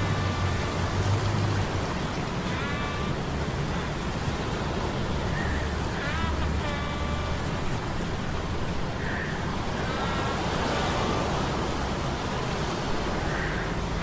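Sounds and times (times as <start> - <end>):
surf rushing: 0.0 - 14.0
wind: 0.0 - 14.0.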